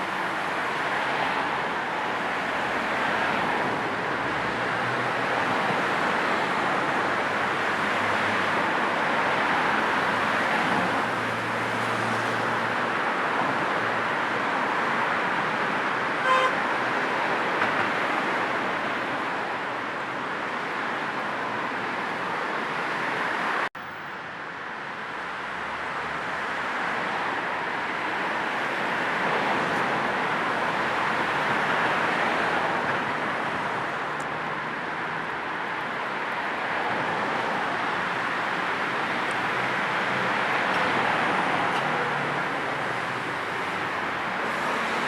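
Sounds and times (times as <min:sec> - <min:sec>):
car road noise: 0:00.0 - 0:45.0.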